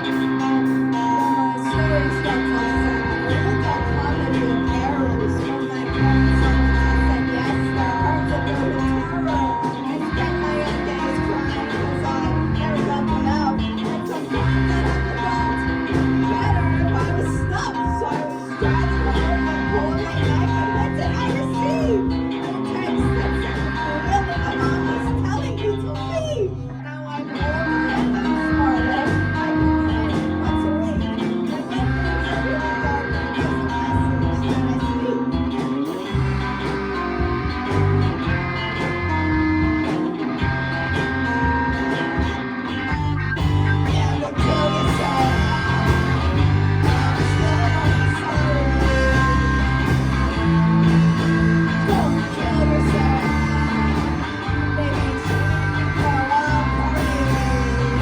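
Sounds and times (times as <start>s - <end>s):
guitar: 0.0s - 58.0s
live band playing: 0.0s - 58.0s
person singing: 0.0s - 58.0s.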